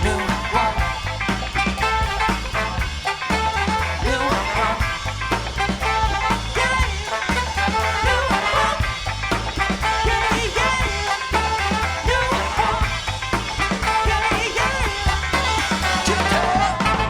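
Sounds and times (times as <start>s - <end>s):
horn section: 0.0s - 17.0s
upbeat soul band music: 0.0s - 17.0s.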